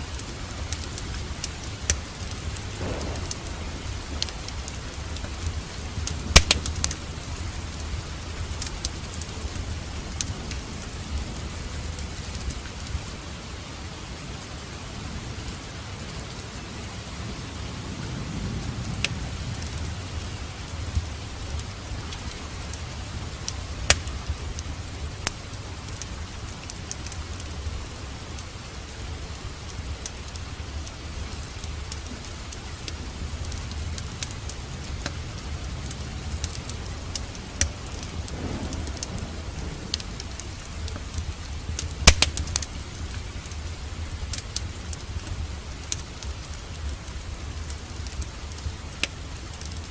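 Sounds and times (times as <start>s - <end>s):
low rumble of thunder: 0.0s - 13.3s, 15.0s - 30.0s, 30.7s - 49.4s
steady rain: 0.0s - 49.9s
wood fire crackling: 0.0s - 49.9s.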